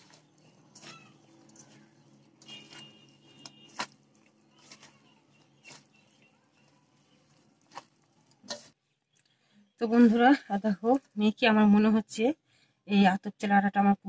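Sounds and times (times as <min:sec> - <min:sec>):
hand squishing potato mixture: 0:00.0 - 0:11.5.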